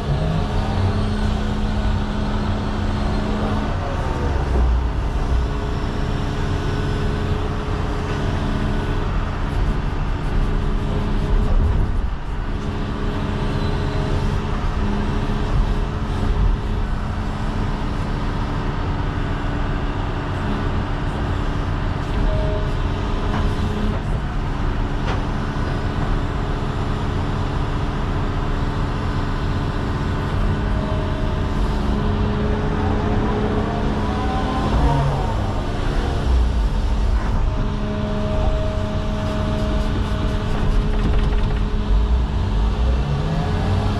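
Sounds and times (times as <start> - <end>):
excavator diesel engine running: 0.0 - 43.9
hydraulics whining: 0.0 - 43.9.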